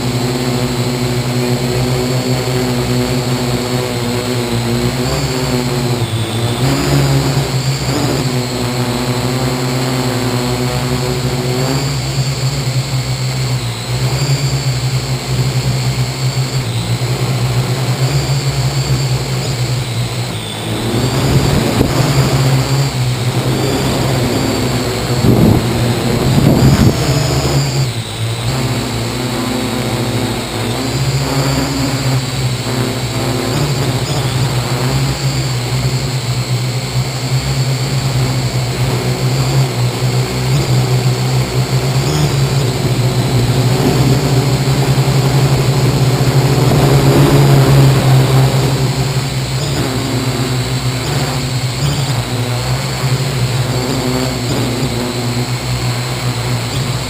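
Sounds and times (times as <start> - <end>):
drone motors whirring: 0.0 - 57.0.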